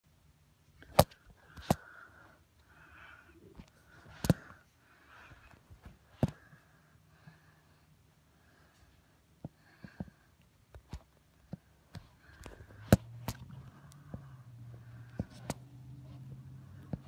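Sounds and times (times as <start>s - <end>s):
faint low hum: 0.1s - 17.0s.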